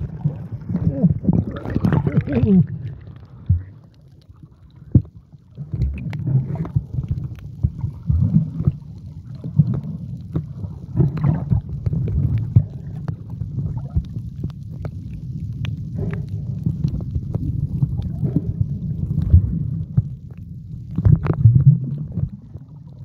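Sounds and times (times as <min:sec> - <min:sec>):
clicks and crackles: 0:00.0 - 0:23.0
underwater rumble of moving water: 0:00.0 - 0:23.0.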